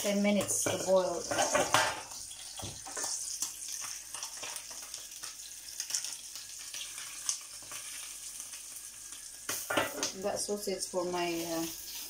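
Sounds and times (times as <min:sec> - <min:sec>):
hot dogs sizzling in a frying pan: 0:00.0 - 0:12.0.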